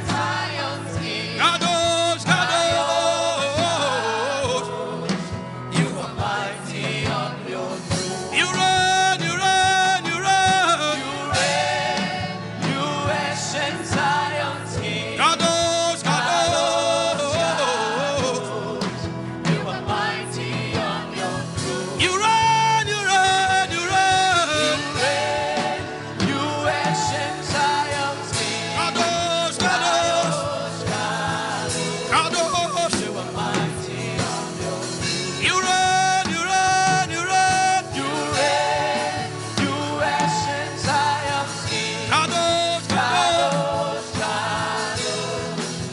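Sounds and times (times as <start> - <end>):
instrumental backing: 0.0 - 45.9
person singing worship song: 0.0 - 45.9.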